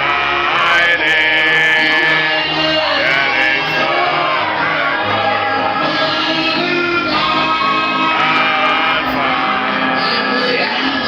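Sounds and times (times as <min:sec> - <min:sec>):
gospel music: 0:00.0 - 0:11.0
group of voices singing: 0:00.0 - 0:11.0.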